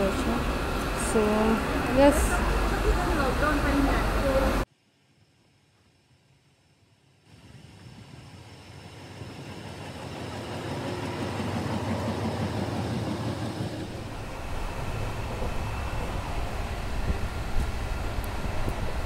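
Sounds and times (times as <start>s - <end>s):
rushing air: 0.0s - 4.6s, 7.3s - 19.0s
train wheels rumbling on rail: 0.0s - 4.6s, 7.4s - 19.0s.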